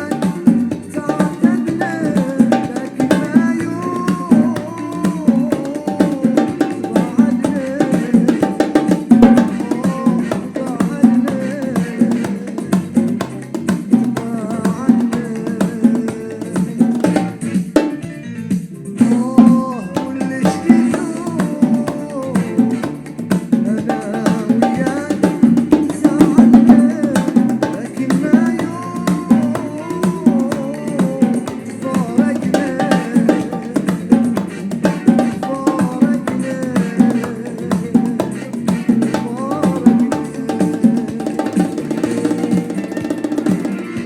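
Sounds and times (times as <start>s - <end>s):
hand percussion: 0.0s - 44.0s
man singing: 0.0s - 44.0s.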